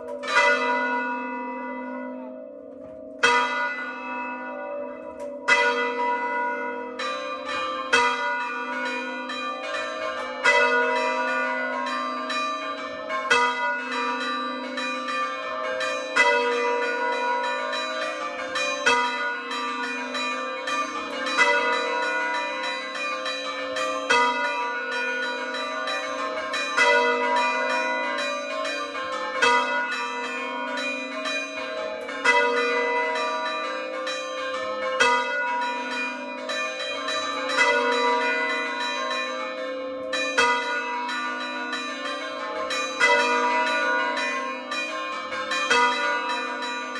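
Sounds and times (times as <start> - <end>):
church bells ringing: 0.0 - 46.9.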